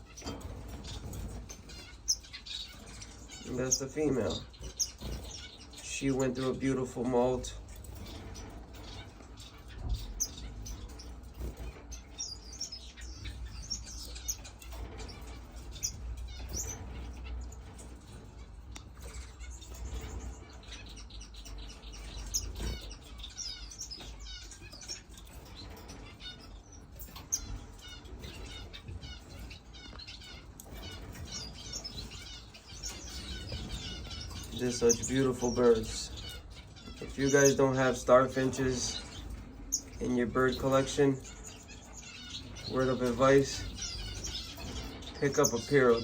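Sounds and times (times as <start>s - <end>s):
finches chirping: 0.0s - 46.0s.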